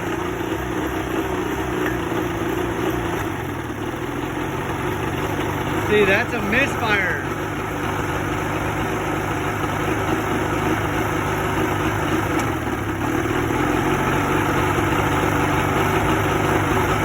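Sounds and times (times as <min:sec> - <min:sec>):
outboard motor idling unevenly: 0:00.0 - 0:17.0.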